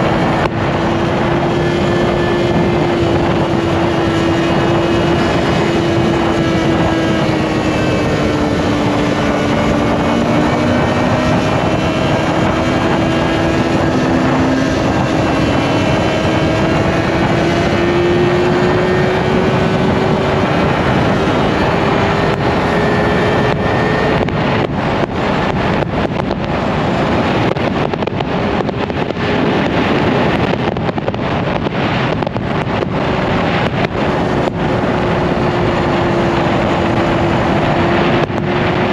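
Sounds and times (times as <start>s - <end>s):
motorcycle engine cruising: 0.0s - 38.9s
wind noise on microphone: 0.0s - 38.9s.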